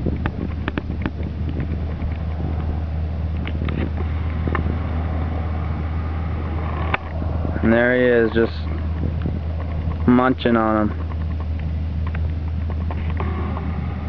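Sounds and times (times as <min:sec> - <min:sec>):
engine idling hum: 0:00.0 - 0:14.0.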